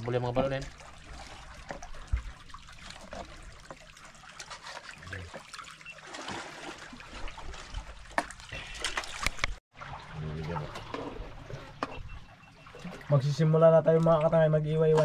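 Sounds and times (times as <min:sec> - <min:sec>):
seawater lapping among rocks: 0:00.0 - 0:15.0.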